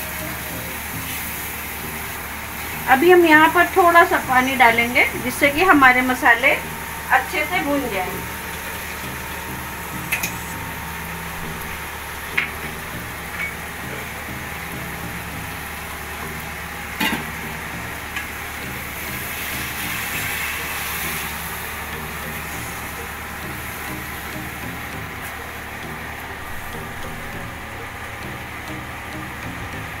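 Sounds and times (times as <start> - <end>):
food sizzling in a pan: 0.0 - 28.9.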